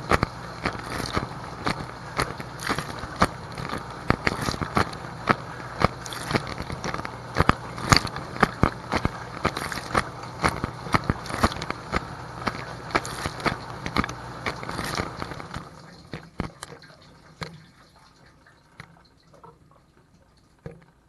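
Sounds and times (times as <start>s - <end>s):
water spray splattering plastic: 0.0s - 17.8s
dishwasher pump humming: 0.0s - 21.0s.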